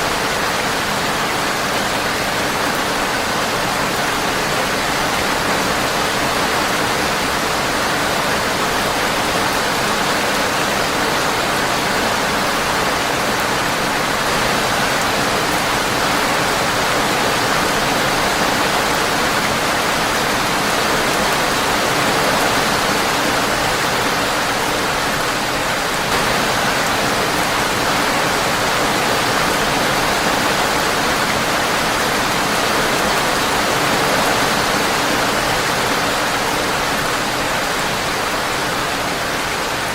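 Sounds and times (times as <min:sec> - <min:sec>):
rain on a windowpane: 0:00.0 - 0:39.9.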